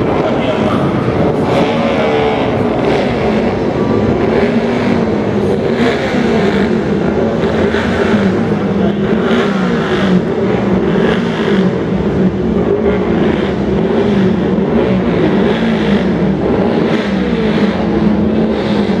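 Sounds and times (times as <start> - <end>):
cars driving past: 0.0 - 19.0.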